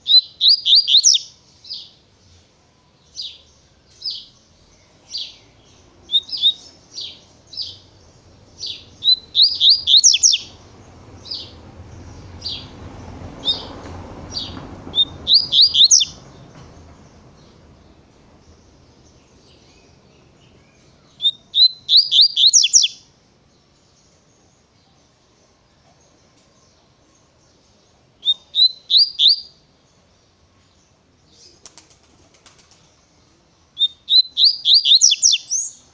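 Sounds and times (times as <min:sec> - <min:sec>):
bird singing high chirps: 0:00.0 - 0:31.6, 0:33.2 - 0:35.9.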